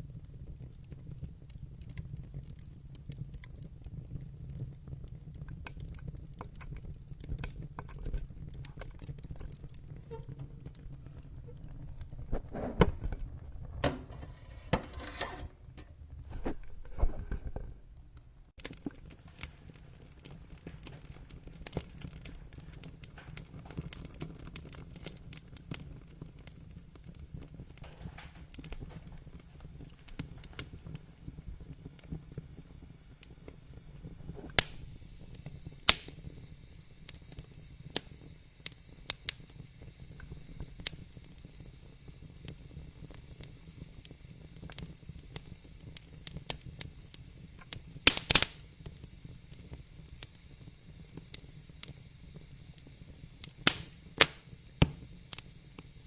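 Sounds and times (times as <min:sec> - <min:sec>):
log fire crackling: 0:00.0 - 0:56.0
low steady fire rumble: 0:00.0 - 0:56.0.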